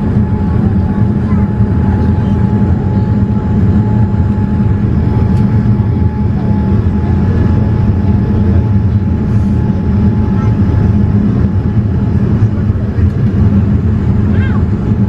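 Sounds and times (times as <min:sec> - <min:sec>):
low rumble of aircraft engines: 0:00.0 - 0:15.0
thin steady whine: 0:00.0 - 0:15.0.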